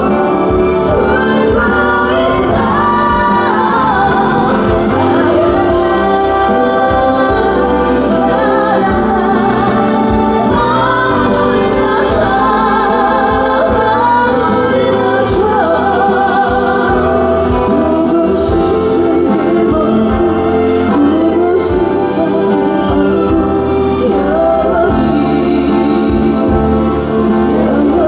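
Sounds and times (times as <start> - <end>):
instrumental backing music: 0.0 - 28.0
woman singing with vibrato: 0.0 - 28.0.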